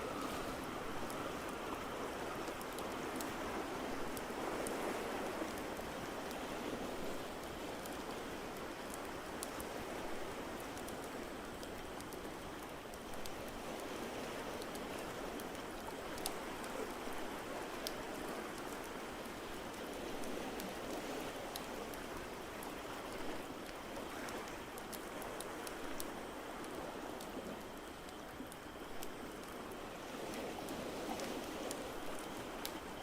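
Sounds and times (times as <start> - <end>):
water noise: 0.0 - 33.0.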